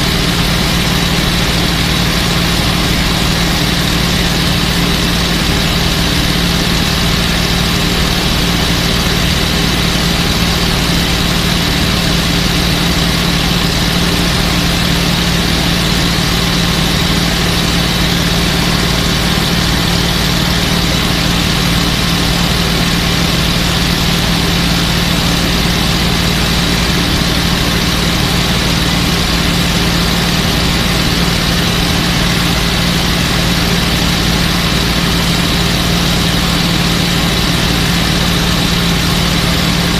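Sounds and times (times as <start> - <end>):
aircraft piston engine running: 0.0 - 39.9.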